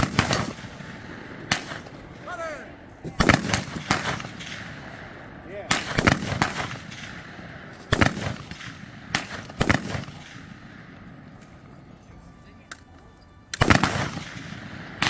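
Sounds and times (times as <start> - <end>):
gunfire blasts with rolling echo: 0.0 - 11.6, 13.5 - 15.0.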